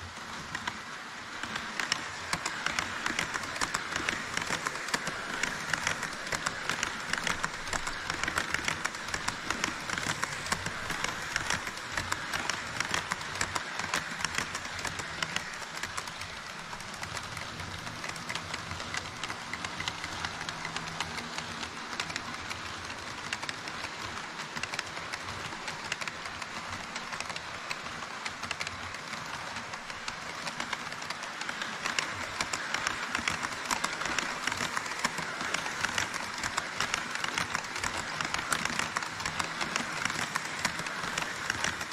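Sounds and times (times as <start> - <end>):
clicking over rail joints: 0.0 - 41.9
model train wheels rattling: 0.0 - 41.9.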